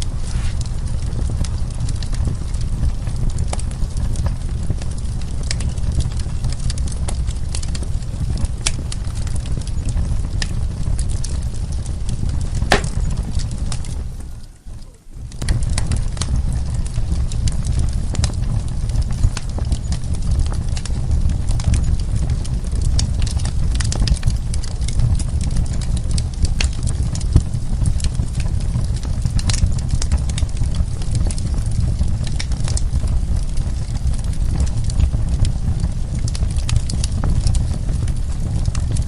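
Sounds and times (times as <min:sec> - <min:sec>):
low rumble of burning logs: 0:00.0 - 0:39.0
wood fire crackling and popping: 0:00.0 - 0:39.0.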